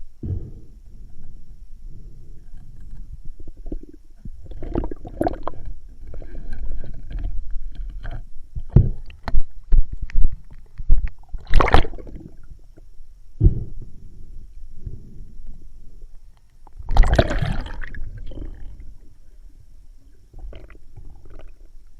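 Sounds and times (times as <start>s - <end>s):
water rumbling and gurgling: 0.0s - 21.9s.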